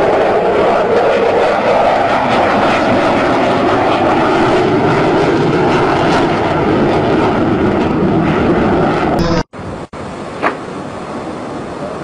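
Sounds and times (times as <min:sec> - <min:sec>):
fighter jet flying overhead: 0:00.0 - 0:12.0.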